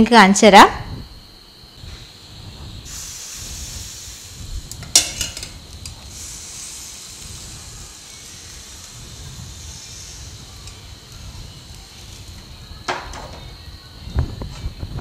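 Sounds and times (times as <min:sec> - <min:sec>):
batter sizzling in a pan: 0:01.8 - 0:14.5.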